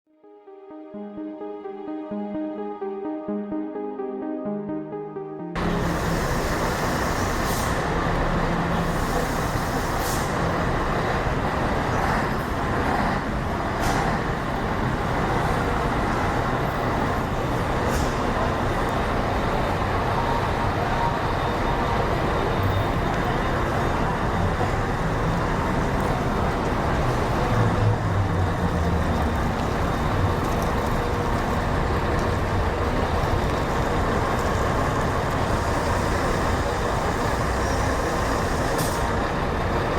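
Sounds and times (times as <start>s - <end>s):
diesel coach engine running: 5.6s - 39.9s.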